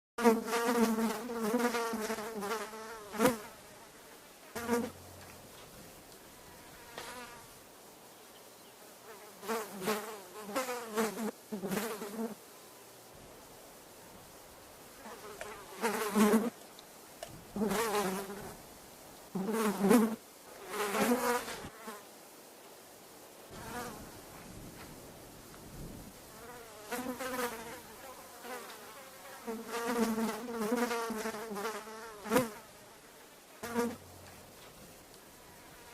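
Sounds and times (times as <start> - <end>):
flies buzzing: 0.2 - 22.1, 23.5 - 35.9.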